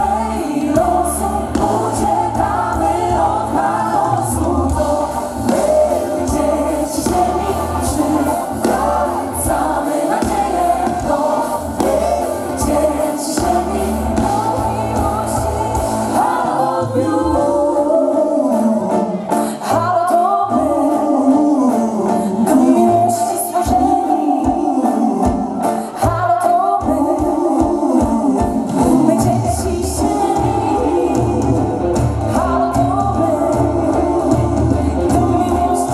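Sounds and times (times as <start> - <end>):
backing singers: 0.0 - 35.9
female lead vocal: 0.0 - 35.9
live band playing pop: 0.0 - 35.9.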